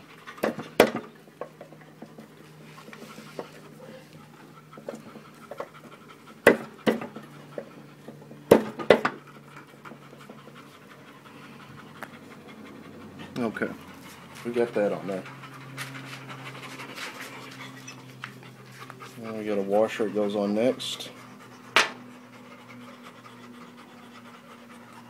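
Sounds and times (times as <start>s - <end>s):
steady low hum: 0.0s - 25.0s
panting breath: 1.7s - 25.0s.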